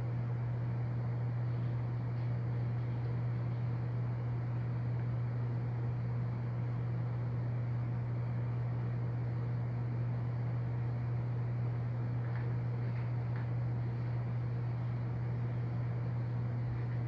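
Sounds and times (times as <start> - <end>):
low-pitched hum: 0.0 - 17.0.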